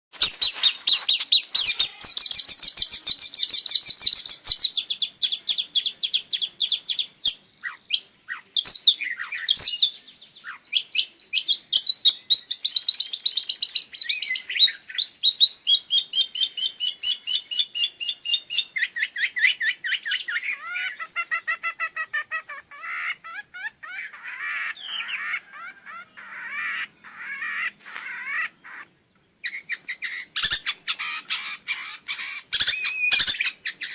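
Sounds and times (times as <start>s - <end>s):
shrike singing: 0.2s - 7.0s, 7.6s - 33.9s.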